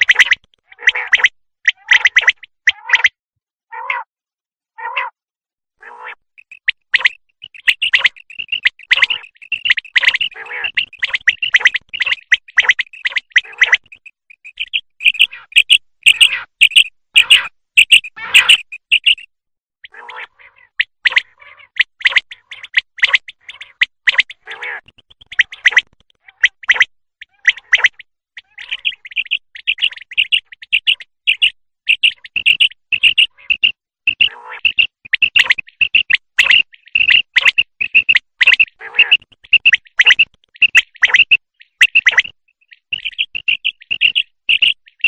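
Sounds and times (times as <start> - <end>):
quail calling: 0.0 - 3.1, 3.7 - 4.1, 4.8 - 5.2, 5.8 - 45.0.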